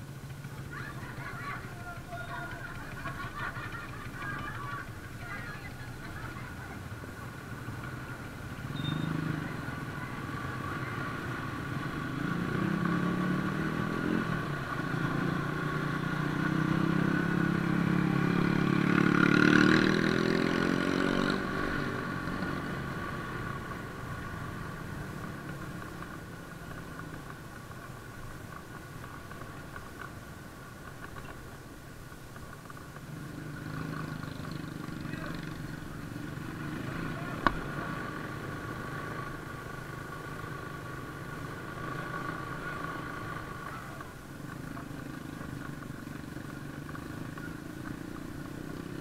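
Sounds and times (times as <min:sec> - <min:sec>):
motorcycle engines: 0:00.0 - 0:49.0.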